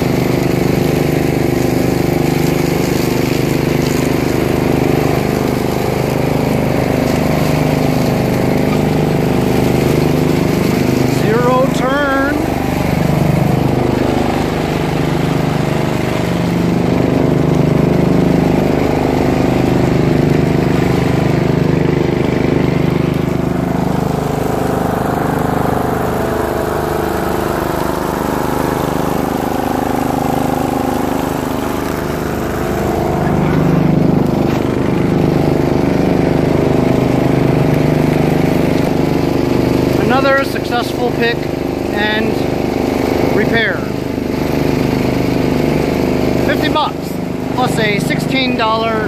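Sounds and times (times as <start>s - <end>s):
riding mower engine running: 0.0s - 49.0s.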